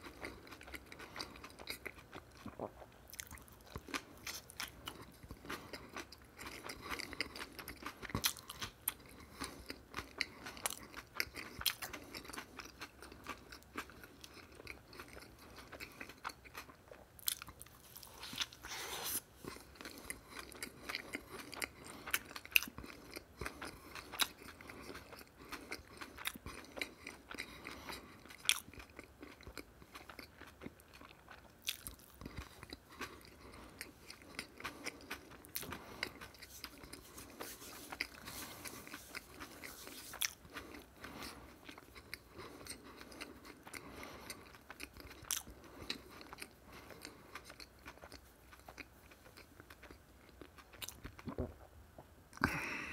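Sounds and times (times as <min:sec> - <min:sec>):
chewing with clicks: 0:00.0 - 0:18.6, 0:19.4 - 0:51.6.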